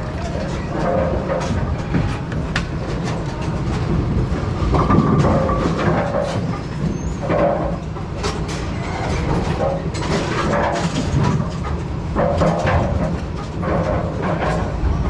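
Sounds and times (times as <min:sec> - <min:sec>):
clanking and clattering: 0:00.0 - 0:15.0
machinery rumble: 0:00.0 - 0:15.0.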